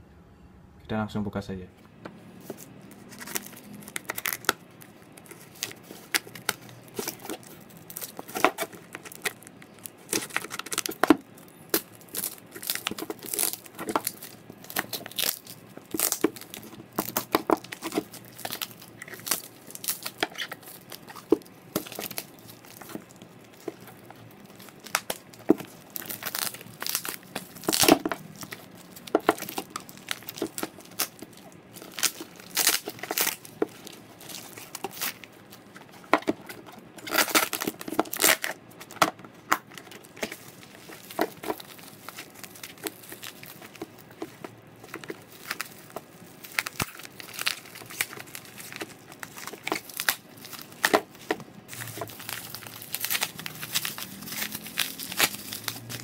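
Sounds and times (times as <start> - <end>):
plastic crackling: 2.4 - 56.0
plastic wrapping ripping: 2.4 - 56.0.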